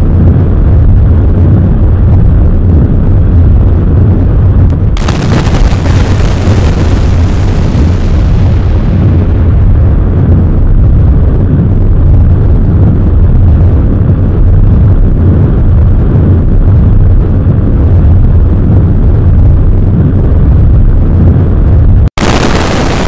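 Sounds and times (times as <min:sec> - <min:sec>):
rocket engines rumbling: 0:00.0 - 0:23.0.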